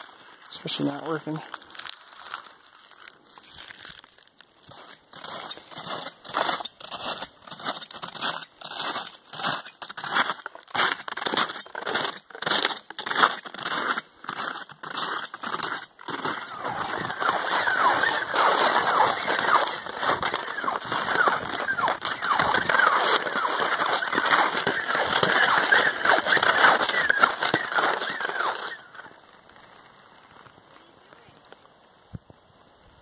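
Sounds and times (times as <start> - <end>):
skis crunching over icy snow: 0.0 - 31.6.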